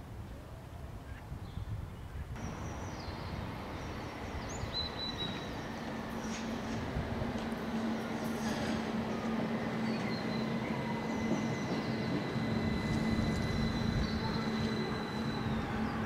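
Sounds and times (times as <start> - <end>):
birds chirping: 1.5 - 16.0
tram humming: 2.4 - 16.0.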